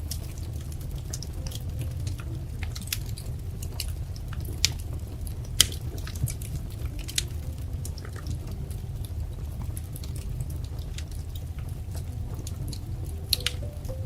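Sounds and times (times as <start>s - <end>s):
low rumble of burning: 0.0s - 14.0s
wood fire crackling and popping: 0.0s - 14.0s.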